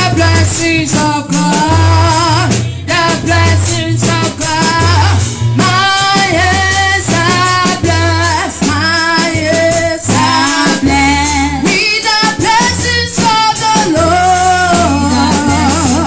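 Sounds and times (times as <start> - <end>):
bass line: 0.0 - 16.0
drums: 0.0 - 16.0
praise song singing: 0.0 - 16.0.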